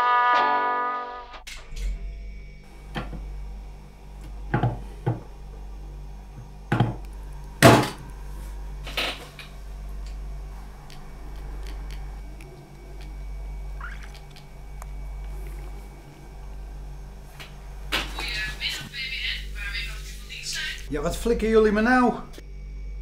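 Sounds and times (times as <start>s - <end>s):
steady low hum: 1.3s - 23.0s.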